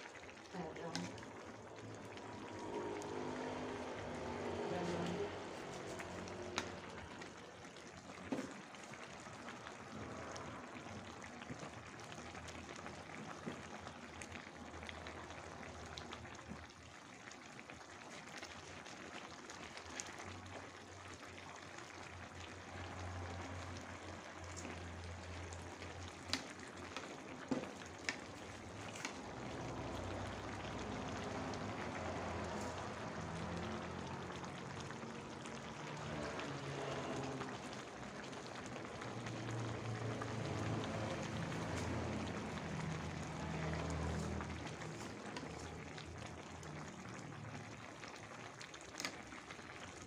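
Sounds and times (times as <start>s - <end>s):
broth bubbling in wok: 0.0s - 50.0s.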